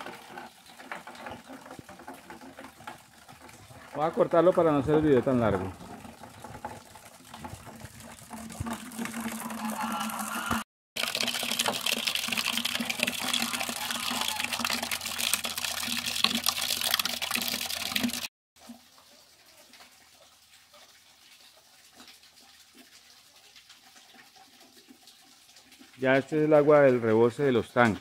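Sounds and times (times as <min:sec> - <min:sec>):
water splashing into plastic bucket: 0:00.0 - 0:28.0.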